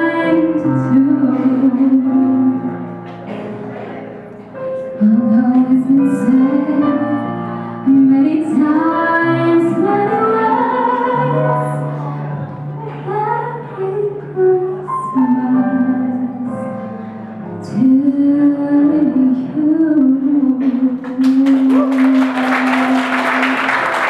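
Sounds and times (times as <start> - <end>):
woman singing: 0.0 - 2.7, 5.0 - 12.0, 12.9 - 16.7, 17.6 - 23.6.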